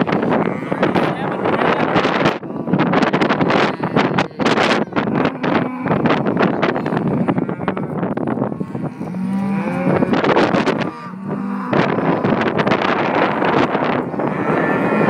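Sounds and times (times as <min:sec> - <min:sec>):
cattle mooing: 0:00.0 - 0:15.0
wind buffeting microphone: 0:00.0 - 0:15.0.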